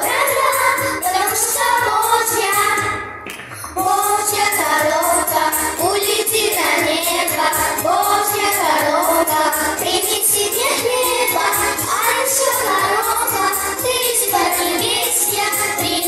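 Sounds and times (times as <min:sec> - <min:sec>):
children singing together: 0:00.0 - 0:03.1, 0:03.8 - 0:16.0
music with steady beat: 0:00.0 - 0:16.0.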